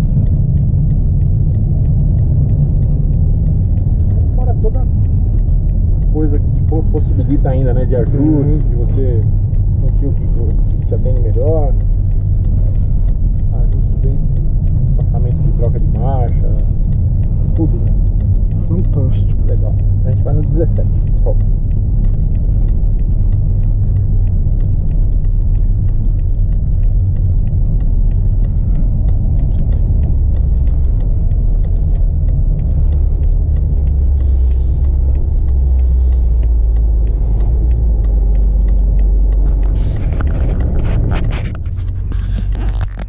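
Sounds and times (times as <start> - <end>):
car engine rumble in cabin: 0.0 - 43.0
road noise: 0.0 - 43.0.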